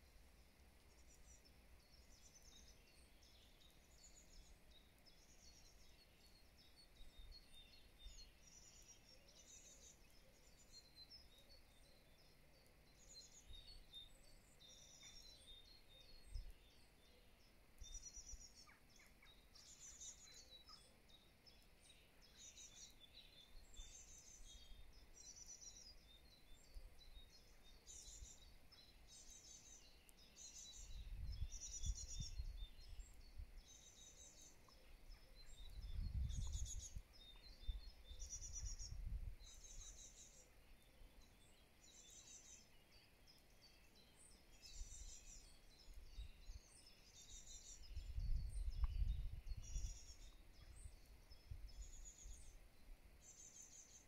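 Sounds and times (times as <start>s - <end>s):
songbirds singing trilled phrases: 0.0s - 54.0s.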